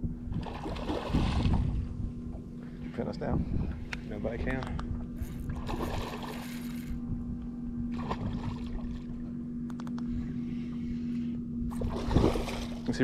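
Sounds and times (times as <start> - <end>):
boat engine low hum: 0.0 - 13.0
wind rumble on microphone: 0.0 - 13.0.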